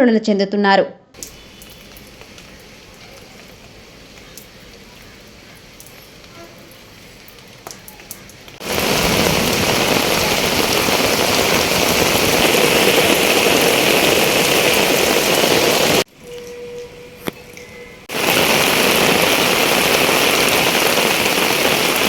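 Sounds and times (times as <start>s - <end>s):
heavy rain pouring: 1.2s - 16.9s, 17.5s - 22.0s.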